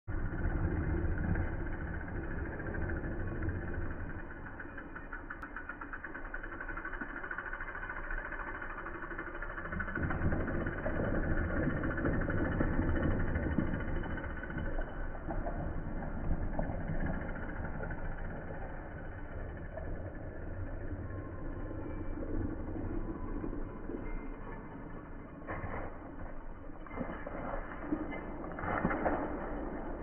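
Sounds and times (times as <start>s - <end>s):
bike tyres rolling over dirt: 0.1s - 30.0s.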